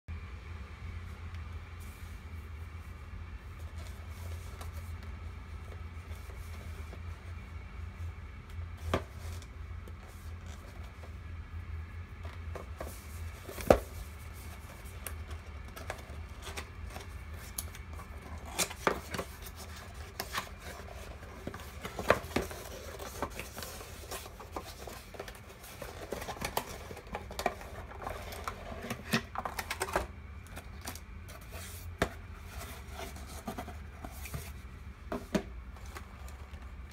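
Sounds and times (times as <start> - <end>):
steady low hum: 0.1 - 36.9
cardboard and plastic rustling: 3.4 - 11.4, 12.1 - 36.9.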